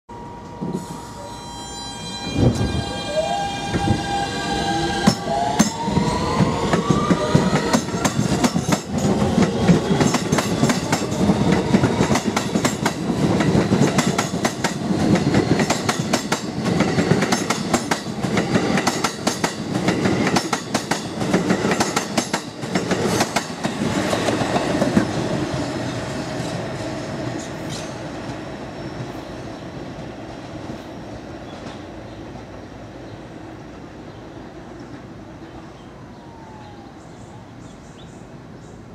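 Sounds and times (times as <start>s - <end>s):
subway train inverter whine: 0.1s - 38.9s.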